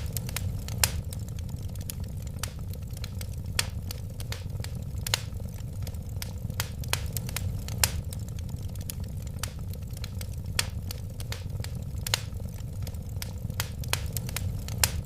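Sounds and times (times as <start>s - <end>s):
fire flames rumbling: 0.0s - 15.0s
wood fire crackling and popping: 0.0s - 15.0s.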